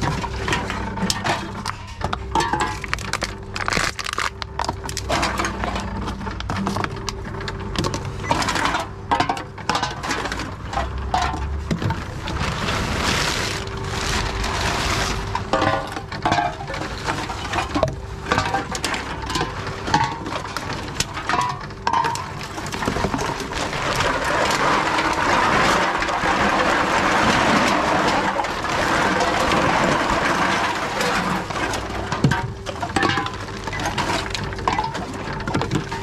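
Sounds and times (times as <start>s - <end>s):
plastic sack rustling: 0.0s - 7.2s, 11.5s - 36.0s.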